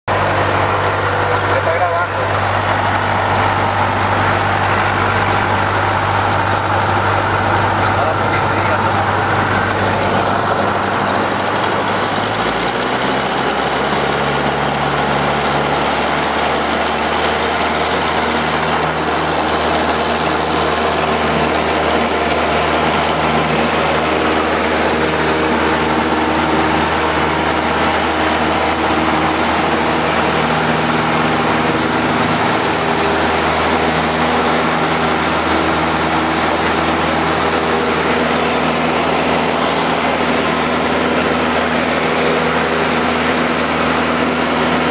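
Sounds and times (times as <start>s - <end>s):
light aircraft engine and propeller: 0.1s - 44.9s.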